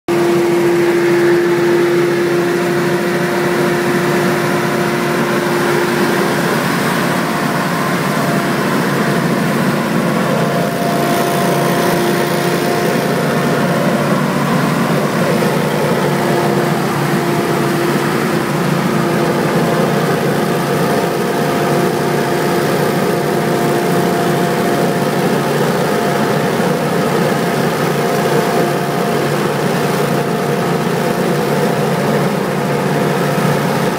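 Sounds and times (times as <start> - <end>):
leaf blower running: 0.1 - 33.9.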